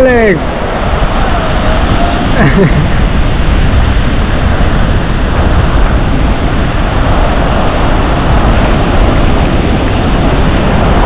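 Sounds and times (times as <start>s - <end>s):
ocean surf breaking: 0.0s - 11.0s
wind noise on microphone: 0.0s - 11.0s.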